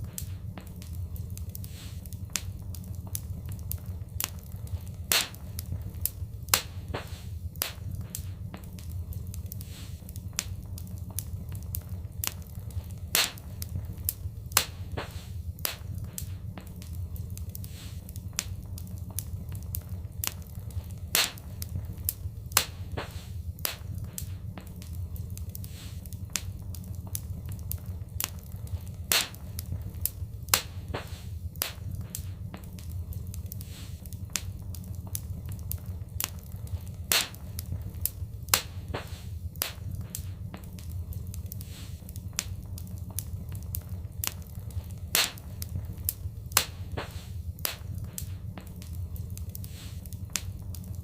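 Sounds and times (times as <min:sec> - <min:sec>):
low rumble: 0:00.0 - 0:51.0
wood fire crackling and popping: 0:00.0 - 0:51.0.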